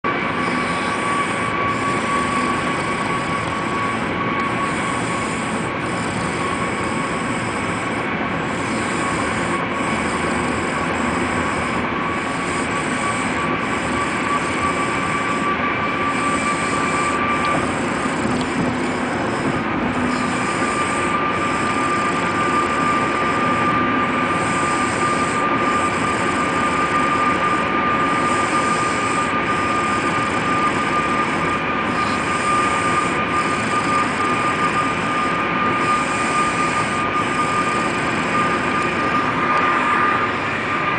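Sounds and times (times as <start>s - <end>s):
steady high whine: 0.0s - 40.9s
vehicle hiss and rumble: 0.1s - 40.9s.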